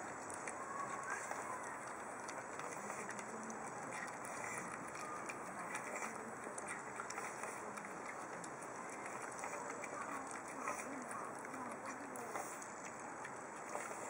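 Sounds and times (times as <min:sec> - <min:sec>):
outdoor background: 0:00.0 - 0:14.0
puppy chewing wet food: 0:00.0 - 0:14.0.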